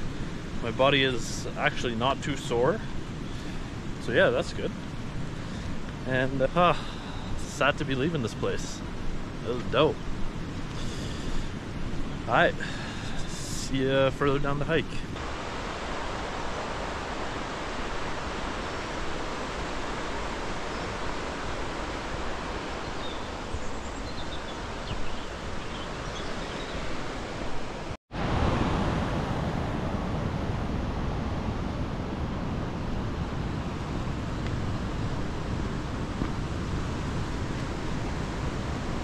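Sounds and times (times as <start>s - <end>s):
steady outdoor rushing noise: 0.0s - 39.0s.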